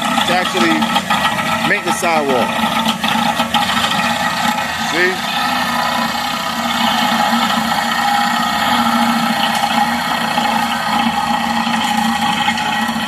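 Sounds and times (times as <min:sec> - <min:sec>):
stump grinder grinding roots: 0:00.0 - 0:13.0.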